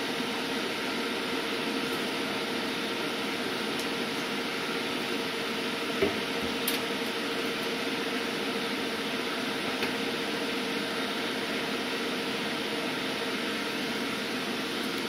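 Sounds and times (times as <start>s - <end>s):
constant hum: 0.0s - 15.0s
fan whirring: 0.0s - 15.0s.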